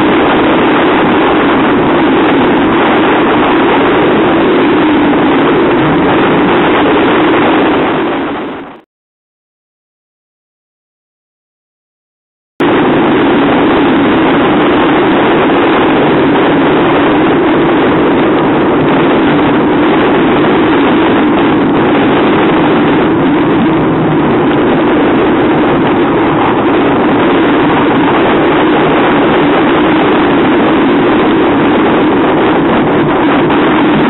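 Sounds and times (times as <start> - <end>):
outboard engines droning: 0.0 - 8.8, 12.6 - 34.0
wind buffeting microphone: 0.0 - 8.8, 12.6 - 34.0.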